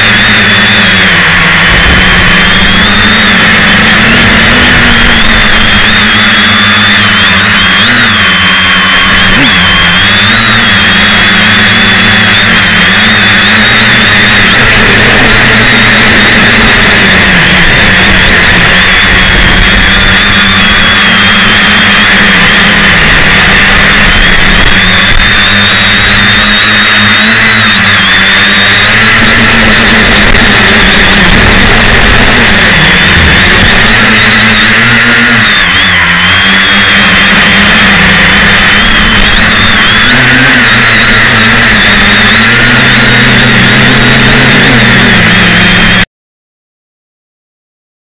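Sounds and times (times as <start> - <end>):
quadcopter motors whining: 0.0 - 46.1.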